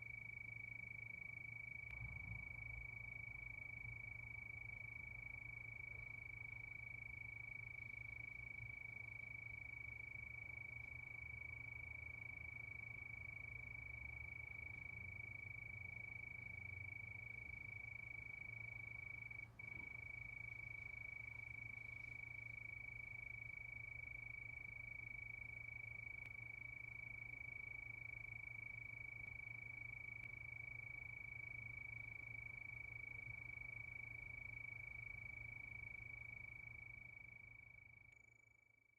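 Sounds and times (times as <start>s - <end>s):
crickets trilling: 0.0s - 38.3s
faint low hum: 0.0s - 38.9s.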